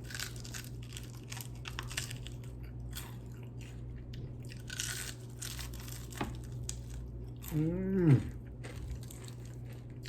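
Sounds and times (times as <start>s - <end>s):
crunching and chewing: 0.0s - 10.0s.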